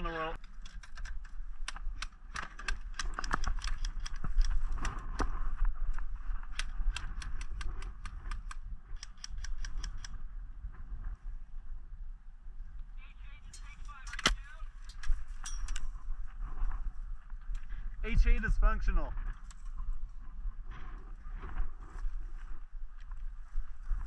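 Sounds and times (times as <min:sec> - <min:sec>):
wind rumble on microphone: 0:01.2 - 0:13.9, 0:14.6 - 0:24.0.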